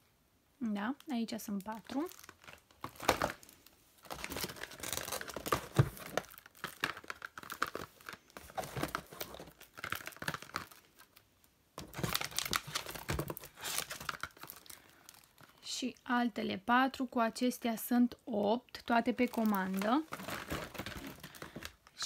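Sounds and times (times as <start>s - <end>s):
plastic wrapping crinkling: 0.9s - 15.7s, 18.8s - 22.0s.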